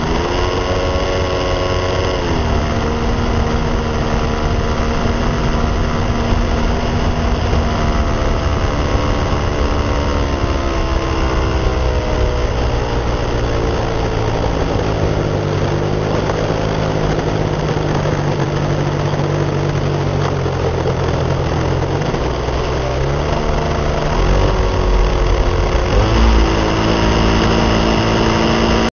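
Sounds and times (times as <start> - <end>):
model plane engine: 0.0 - 28.9
wind rush: 0.0 - 28.9.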